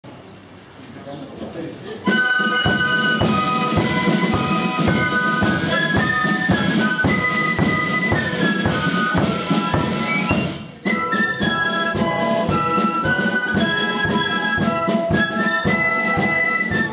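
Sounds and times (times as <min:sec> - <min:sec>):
drum beats: 0:02.0 - 0:16.9.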